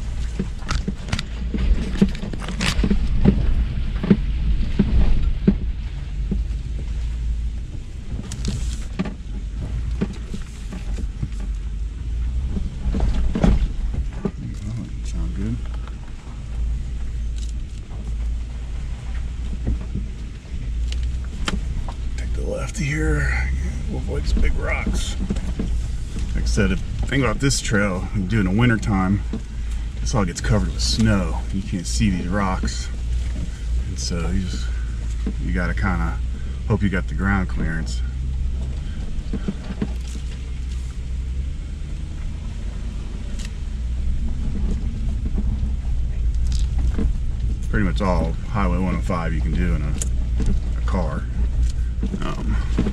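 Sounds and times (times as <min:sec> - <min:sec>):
body and suspension rattles: 0:00.0 - 0:52.9
engine and tyres drone: 0:00.0 - 0:52.9.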